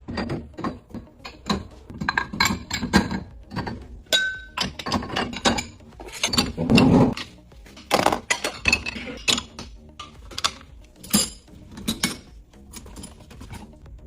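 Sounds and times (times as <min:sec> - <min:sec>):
dishes clinking in dishwasher racks: 0:00.0 - 0:13.2.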